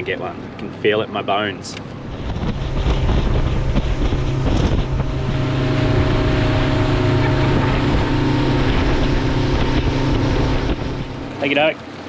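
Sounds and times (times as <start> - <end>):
outboard motor running: 1.8 - 12.0
water rushing past hull: 1.8 - 12.0
wind buffeting microphone: 1.9 - 11.8.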